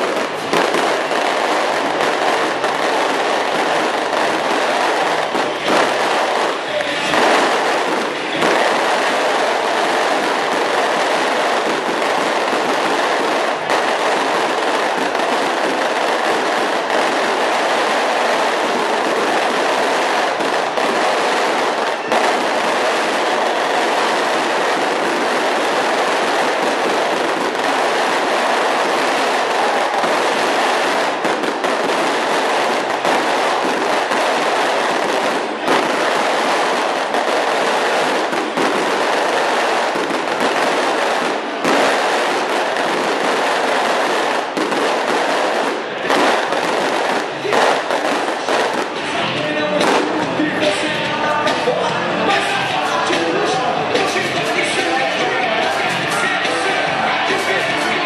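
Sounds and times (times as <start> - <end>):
crowd cheering and clapping: 0.0 - 58.0
sharp cracks: 0.0 - 58.0.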